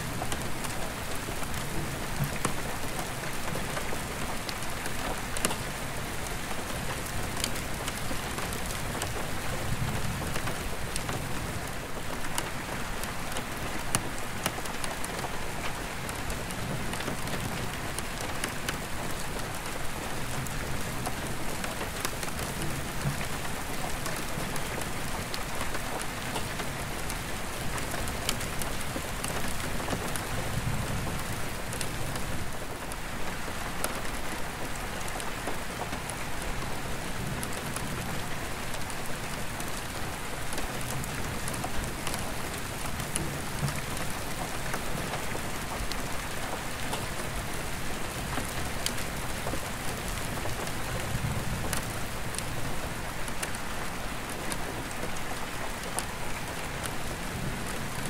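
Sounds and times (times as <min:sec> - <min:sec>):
rain pattering on skylight glass: 0:00.1 - 0:58.0.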